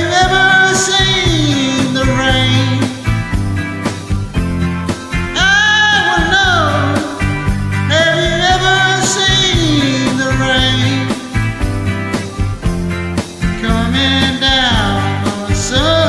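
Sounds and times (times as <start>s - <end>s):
country-rock backing track: 0.0s - 16.0s
person singing karaoke: 0.0s - 16.0s.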